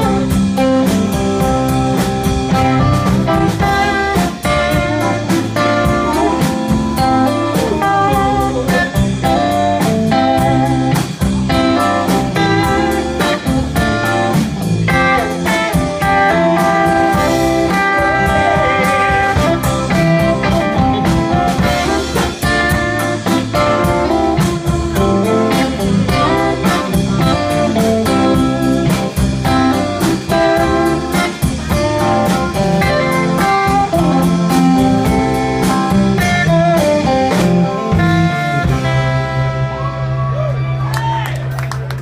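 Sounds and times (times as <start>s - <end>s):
lead guitar holding long notes: 0.0s - 41.7s
live blues-rock band: 0.0s - 42.0s.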